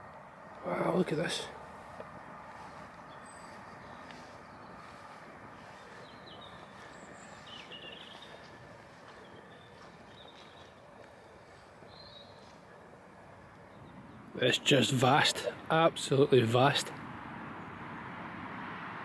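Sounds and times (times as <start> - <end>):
outdoor background noise: 0.0 - 19.0
small birds chirping: 0.1 - 15.7.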